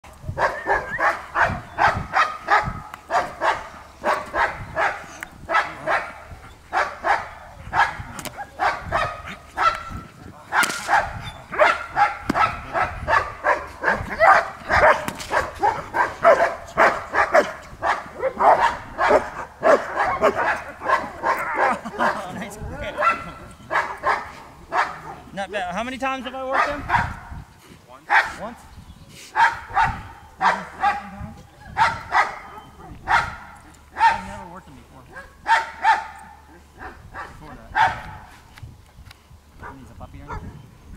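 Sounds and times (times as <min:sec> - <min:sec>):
dog barking rapidly: 0:00.4 - 0:22.2, 0:22.9 - 0:25.2, 0:26.5 - 0:27.4, 0:28.1 - 0:28.4, 0:29.4 - 0:31.1, 0:31.7 - 0:34.4, 0:35.1 - 0:38.2, 0:39.6 - 0:40.6.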